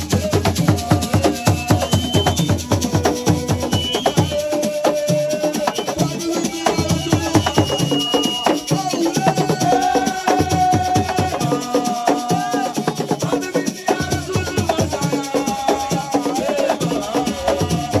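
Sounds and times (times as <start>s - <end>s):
fast percussion drumming: 0.0s - 18.0s.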